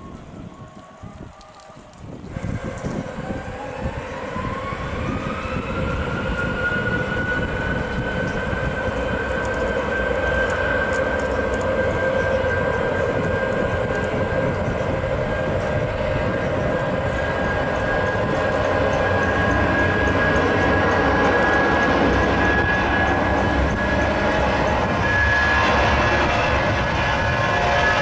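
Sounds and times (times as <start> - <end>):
jet engine rumble: 0.0 - 28.0
jet engine whine: 0.0 - 28.0.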